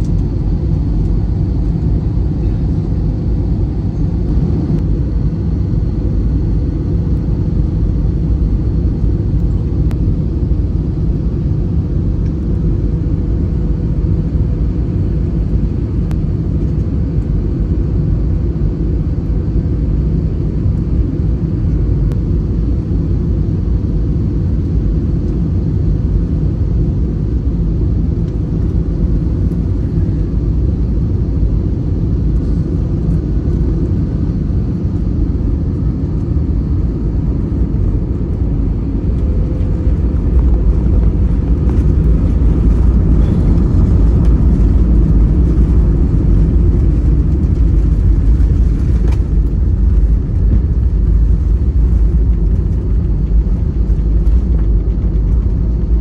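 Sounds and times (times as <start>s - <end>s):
airplane cabin rumble: 0.0s - 56.0s
faint steady hum: 0.0s - 56.0s
jet engine and airflow noise: 0.0s - 56.0s.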